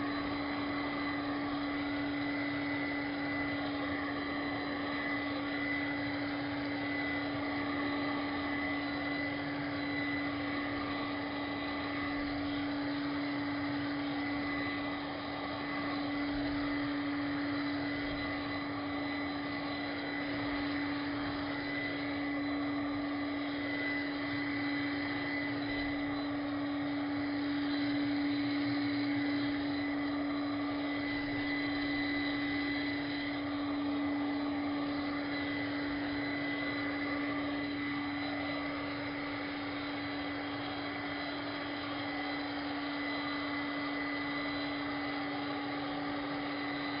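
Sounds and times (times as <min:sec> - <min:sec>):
handheld vacuum cleaner motor humming: 0:00.0 - 0:47.0.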